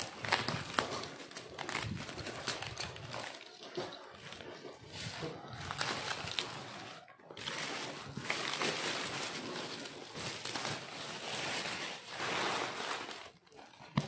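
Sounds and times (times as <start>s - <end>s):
plastic bag rustling and crinkling: 0.0s - 14.0s.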